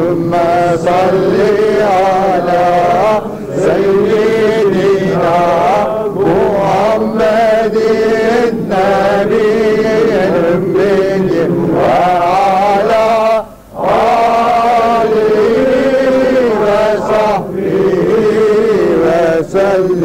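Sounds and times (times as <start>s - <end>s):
voices chanting: 0.0s - 20.0s.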